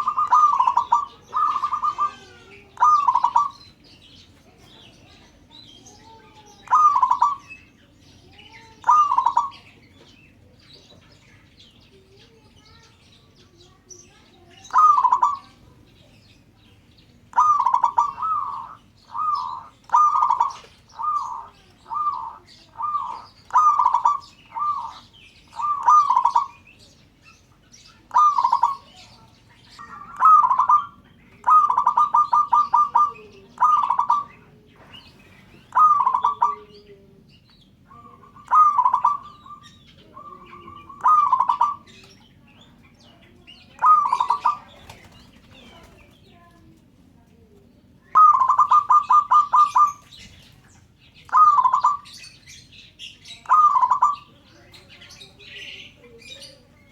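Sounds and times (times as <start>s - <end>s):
dove cooing: 0.0s - 7.7s, 8.3s - 10.6s, 14.6s - 16.1s, 17.3s - 26.8s, 28.0s - 42.1s, 43.5s - 46.3s, 48.1s - 52.2s, 53.3s - 56.9s
small birds chirping: 0.0s - 56.9s.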